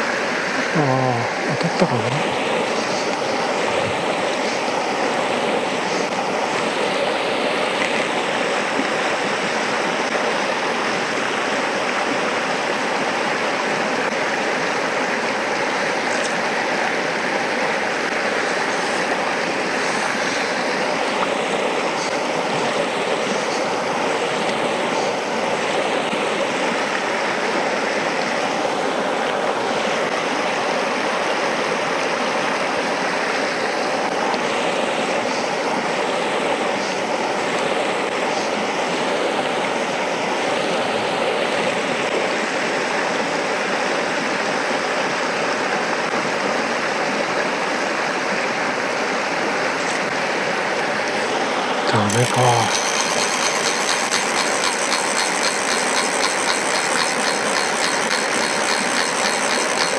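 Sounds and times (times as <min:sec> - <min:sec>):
stream flowing over stones: 0:00.0 - 0:59.9.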